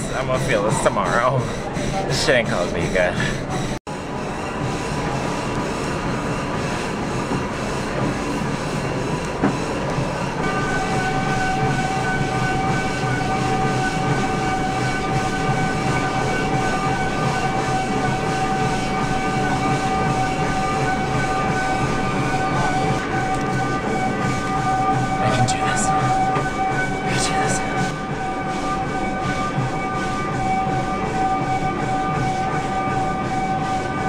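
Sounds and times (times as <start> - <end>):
steady whine: 0.0 - 34.0.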